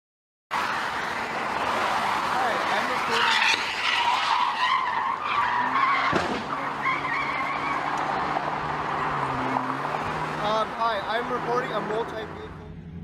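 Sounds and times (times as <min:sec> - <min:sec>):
car tyres squealing: 0:00.5 - 0:13.0
vehicle noise: 0:00.5 - 0:13.0.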